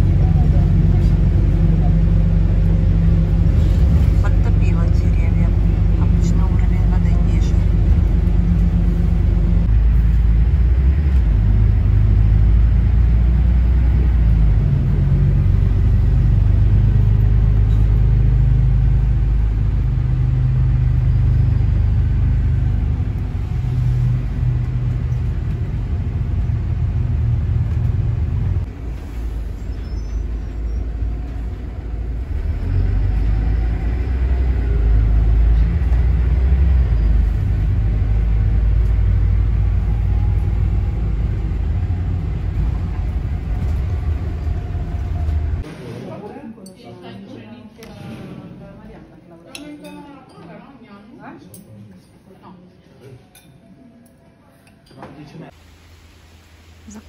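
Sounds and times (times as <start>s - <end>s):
vehicle engine and road rumble: 0.0s - 46.2s.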